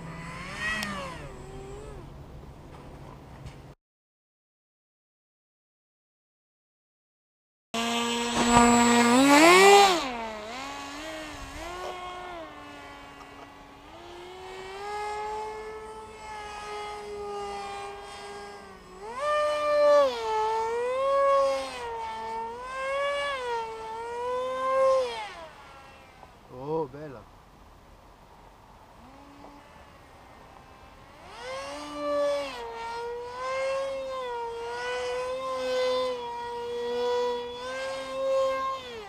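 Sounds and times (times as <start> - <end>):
electric motor and propeller whine: 0.0 - 3.7, 7.8 - 27.2, 27.9 - 39.0.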